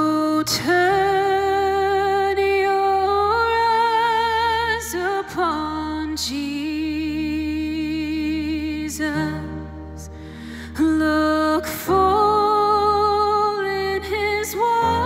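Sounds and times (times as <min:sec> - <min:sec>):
woman singing worship song: 0:00.0 - 0:15.0.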